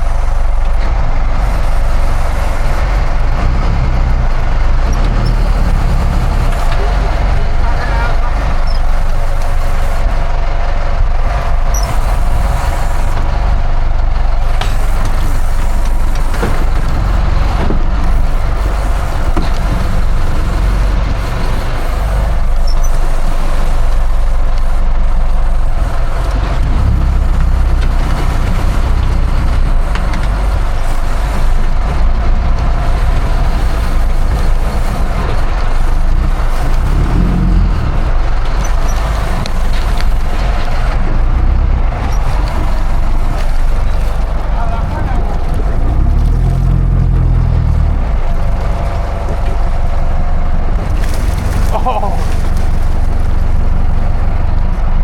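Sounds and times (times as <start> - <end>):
boat engine rumbling: 0.0 - 55.0.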